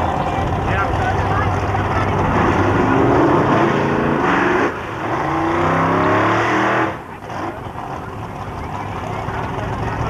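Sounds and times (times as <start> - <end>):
drag car engine revving: 0.0 - 10.0.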